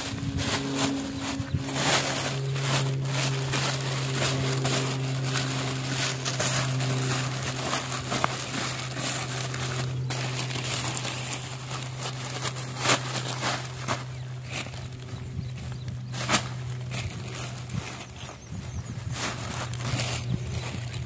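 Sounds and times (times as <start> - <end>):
low hum: 0.0 - 21.0
plastic bags crinkling: 0.0 - 21.0.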